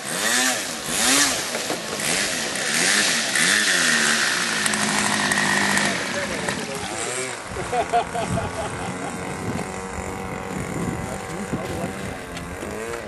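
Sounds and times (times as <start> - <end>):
model plane motor revving: 0.0 - 13.0.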